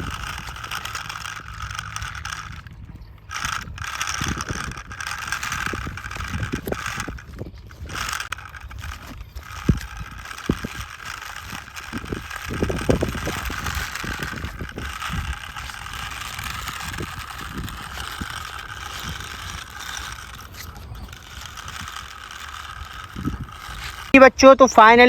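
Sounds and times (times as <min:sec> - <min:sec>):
toy knocking and rattling: 0:00.0 - 0:24.3
toy tractor whirring: 0:00.0 - 0:25.0.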